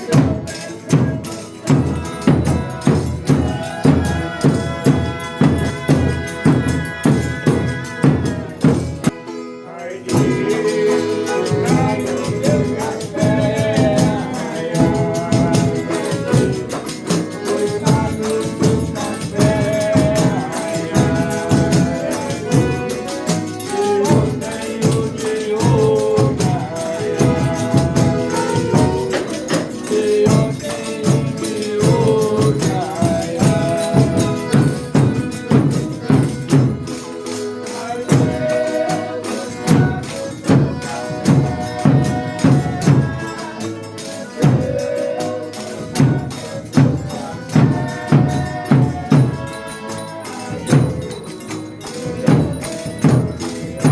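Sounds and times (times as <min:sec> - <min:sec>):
hand percussion beat: 0:00.0 - 0:53.9
voices singing folk melody: 0:00.0 - 0:53.9.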